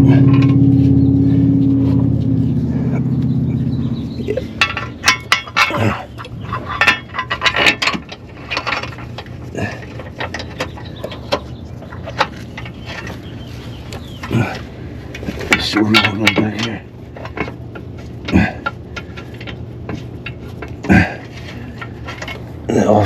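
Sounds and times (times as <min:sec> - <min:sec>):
metal bolts and tools clinking: 0:00.0 - 0:00.7, 0:03.6 - 0:22.5
steady low hum: 0:00.0 - 0:23.0.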